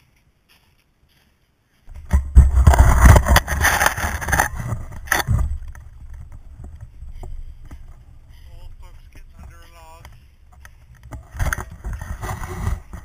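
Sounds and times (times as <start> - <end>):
faint rustling: 0.0 - 13.0
branches scraping against camera: 1.9 - 13.0.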